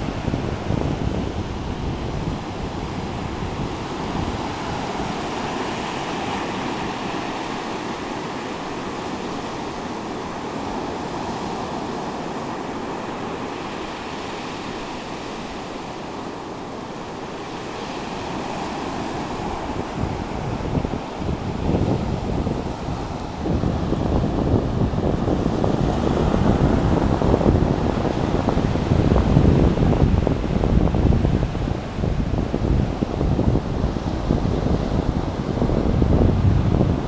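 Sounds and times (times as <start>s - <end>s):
ocean surf washing ashore: 0.0s - 37.0s
wind rumble on microphone: 0.0s - 37.0s.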